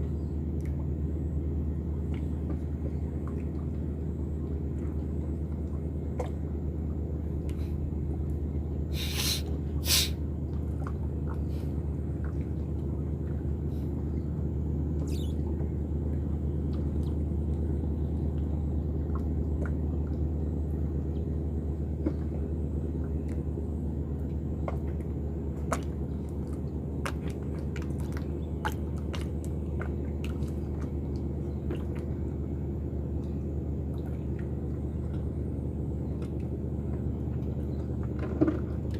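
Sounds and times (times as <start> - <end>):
motor running low rumble: 0.0 - 38.9.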